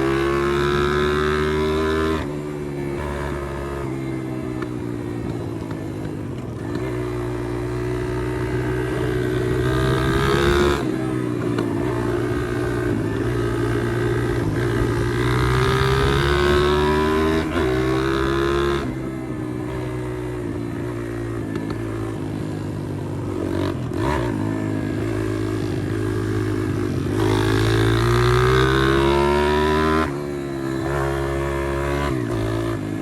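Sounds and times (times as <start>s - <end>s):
pit bike engine running: 0.0s - 33.0s.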